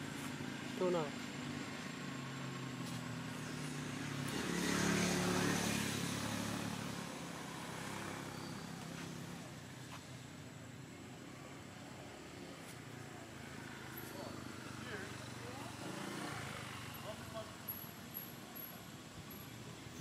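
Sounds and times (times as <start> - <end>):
vehicle engine humming passing: 0.0 - 20.0.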